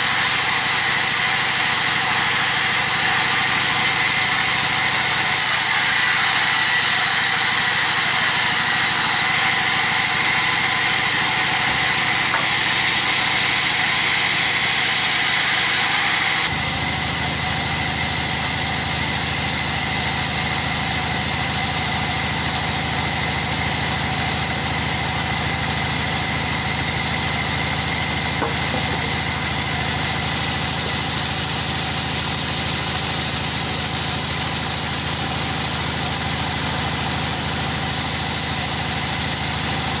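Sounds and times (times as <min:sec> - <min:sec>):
machine running with high whine: 0:00.0 - 0:40.0.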